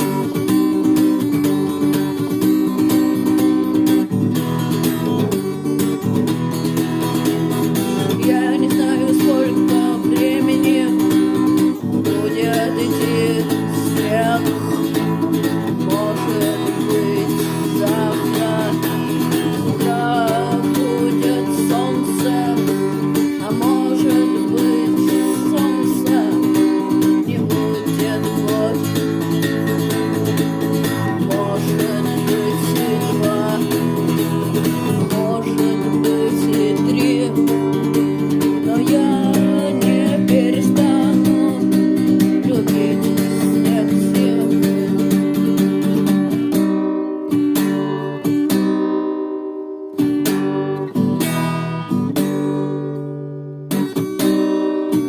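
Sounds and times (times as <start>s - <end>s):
bass guitar: 0.0s - 48.7s
strummed guitar chords: 0.0s - 55.0s
wavering lead guitar line: 0.0s - 55.0s.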